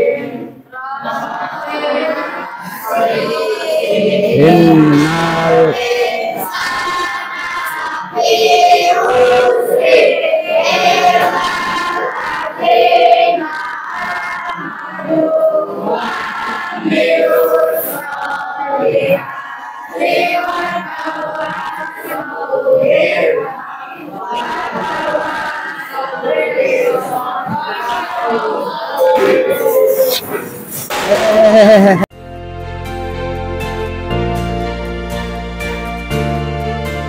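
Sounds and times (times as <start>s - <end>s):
children reciting prayer in unison: 0.0s - 31.0s.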